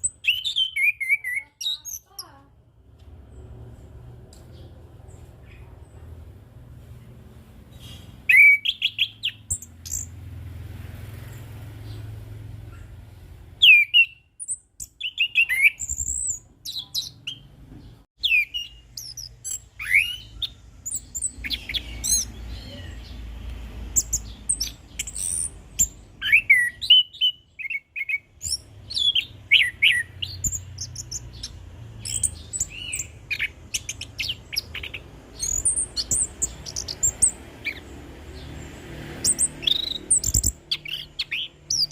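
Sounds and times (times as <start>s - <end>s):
thrush singing chirps and trills: 0.0s - 2.6s, 7.3s - 41.9s.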